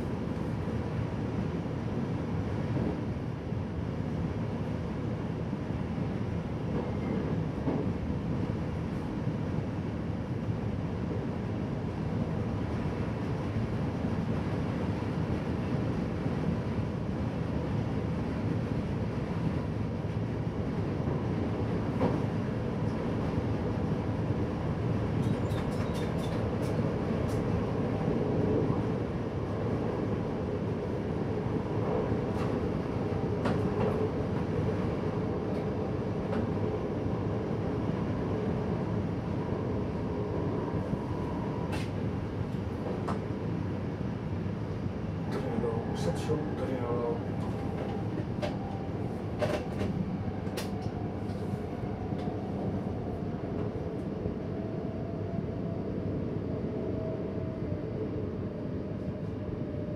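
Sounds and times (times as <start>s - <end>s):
train wheels rumbling on rail: 0.0s - 55.8s.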